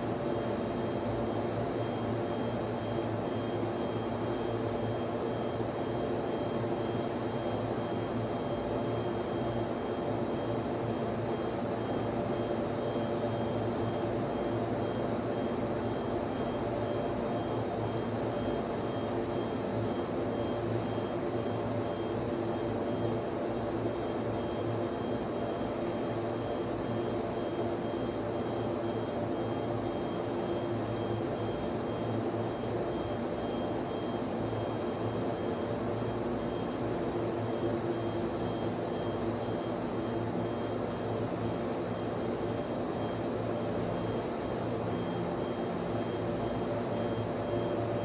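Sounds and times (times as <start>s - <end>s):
cooling fans whirring: 0.0s - 48.0s
faint high whine: 0.2s - 48.0s.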